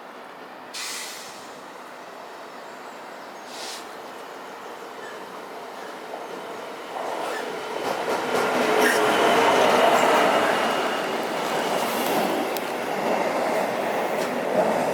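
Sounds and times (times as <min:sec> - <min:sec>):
train approaching: 0:00.0 - 0:14.9.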